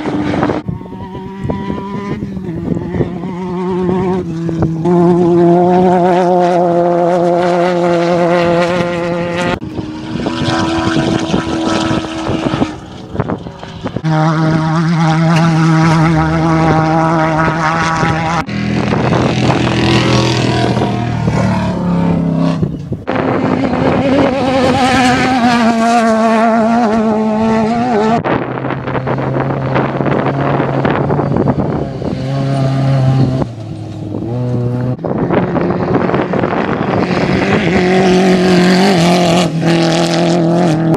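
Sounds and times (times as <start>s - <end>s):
race vehicle engines running hard: 0.0s - 40.9s.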